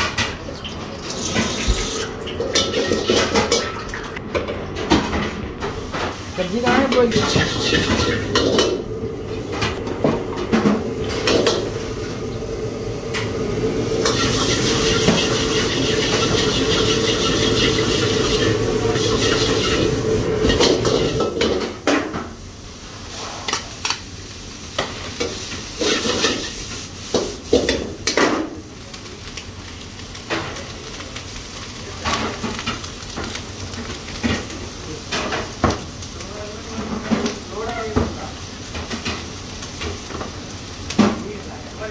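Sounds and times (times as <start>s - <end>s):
gas burner roaring: 0.0s - 41.9s
onions sizzling in a wok: 5.6s - 41.9s.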